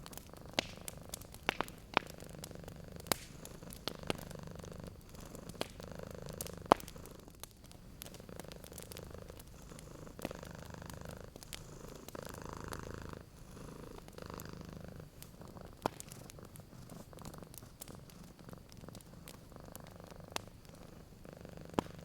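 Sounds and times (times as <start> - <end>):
cat purring: 0.0 - 22.0
wood fire crackling and popping: 0.0 - 22.0.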